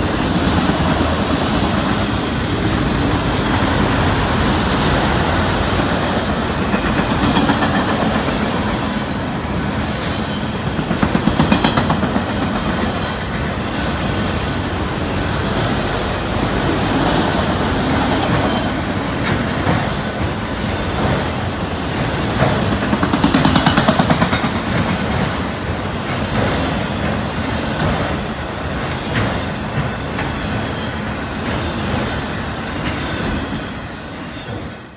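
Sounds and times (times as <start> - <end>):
freight cars rolling past: 0.0 - 34.9
wheels clacking over rail joints: 0.0 - 34.9.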